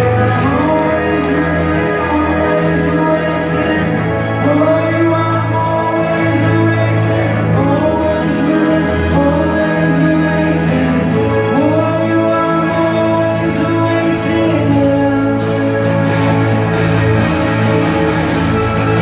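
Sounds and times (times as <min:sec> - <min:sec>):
acoustic rock band with vocals: 0:00.0 - 0:19.0.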